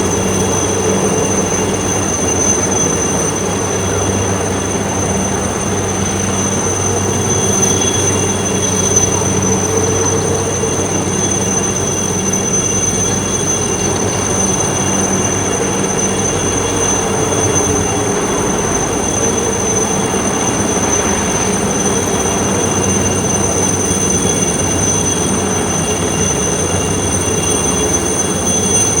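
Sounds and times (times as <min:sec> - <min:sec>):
vehicle running noise: 0:00.0 - 0:28.0
high-pitched whine: 0:00.0 - 0:29.0.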